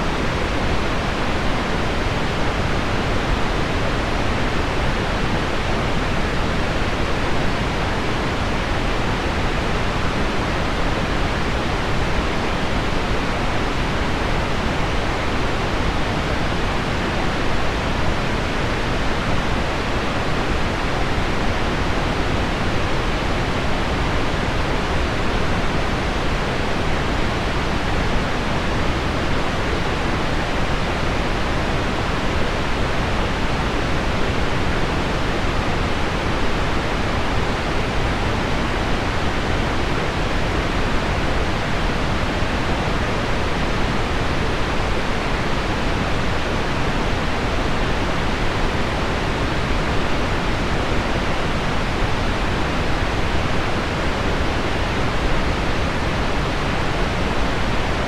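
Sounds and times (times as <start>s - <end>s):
low pink noise: 0.0s - 58.0s.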